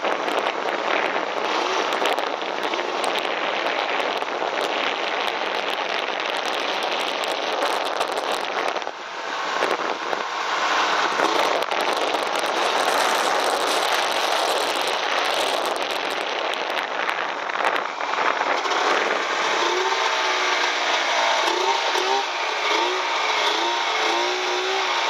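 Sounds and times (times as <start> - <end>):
snowmobile engine and track noise: 0.0 - 25.0
wind on microphone: 0.0 - 25.0.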